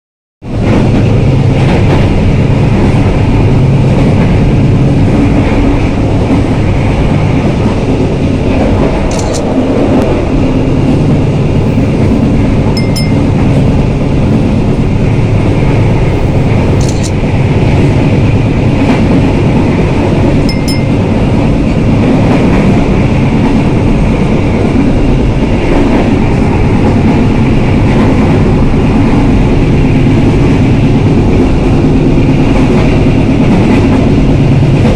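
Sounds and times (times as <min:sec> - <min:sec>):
train rumbling on rails: 0:00.4 - 0:34.9.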